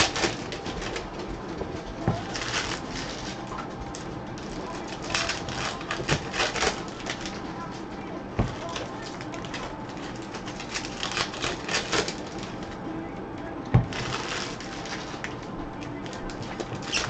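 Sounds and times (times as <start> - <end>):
cards clicking and rustling: 0.0 - 12.8, 13.8 - 17.0.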